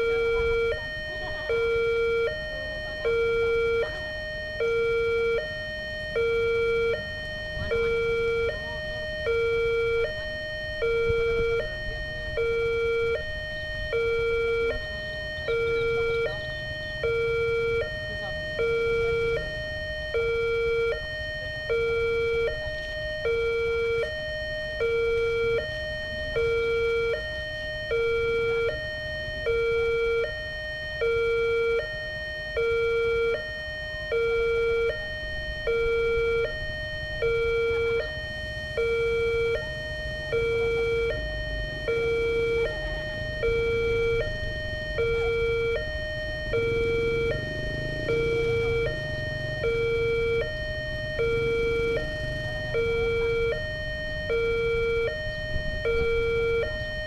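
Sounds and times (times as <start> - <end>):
two-tone crossing siren: 0.0 - 57.0.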